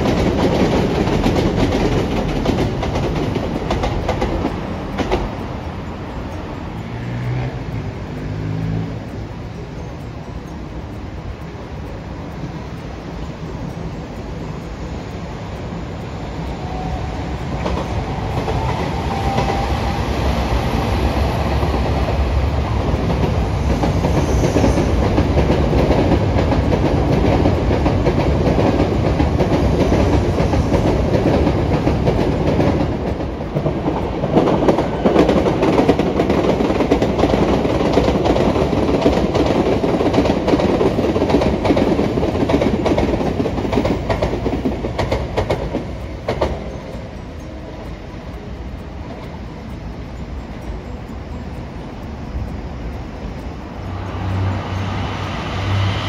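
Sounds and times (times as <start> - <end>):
train wheels clattering: 0.0 - 56.0.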